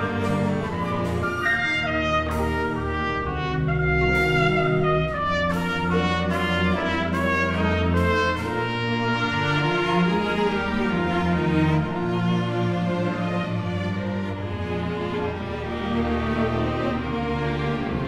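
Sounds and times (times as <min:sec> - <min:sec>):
orchestral brass chords: 0:00.0 - 0:18.0.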